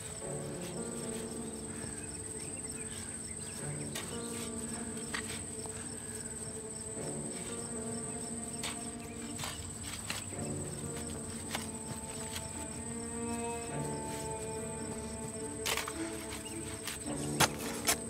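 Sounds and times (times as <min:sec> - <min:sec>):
insects chirring: 0:00.0 - 0:18.0
music of sustained low notes: 0:00.0 - 0:18.0.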